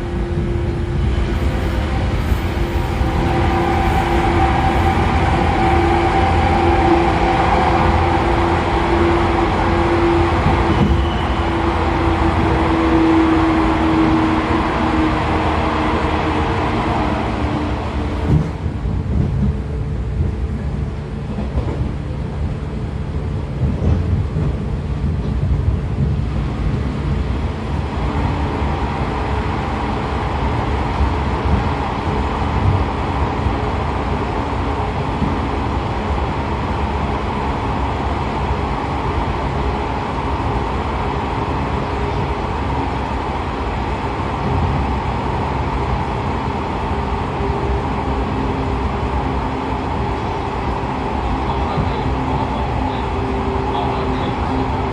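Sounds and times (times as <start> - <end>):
train wheels rumbling: 0.0 - 54.9.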